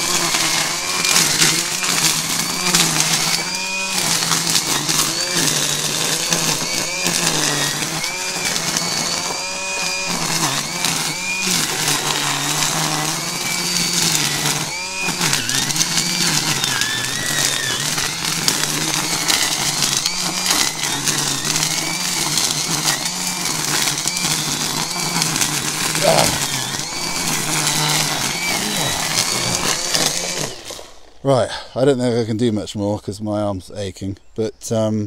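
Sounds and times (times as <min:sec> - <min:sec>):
line trimmer cutting weeds: 0:00.0 - 0:31.2.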